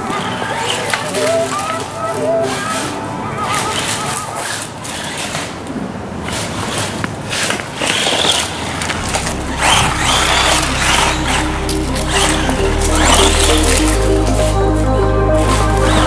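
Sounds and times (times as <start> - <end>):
rc buggy driving over rough ground: 0.0 - 14.6, 15.4 - 16.0.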